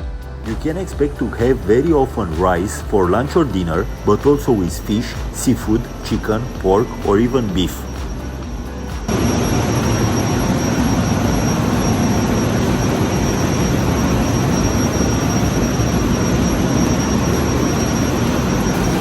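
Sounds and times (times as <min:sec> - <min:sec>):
engine room machinery noise: 0:00.0 - 0:19.0
high-pitched whine: 0:00.0 - 0:19.0.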